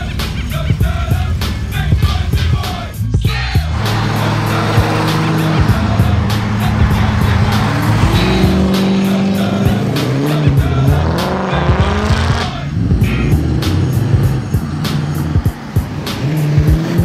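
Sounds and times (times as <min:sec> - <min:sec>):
music with fast beat and bass: 0:00.0 - 0:17.0.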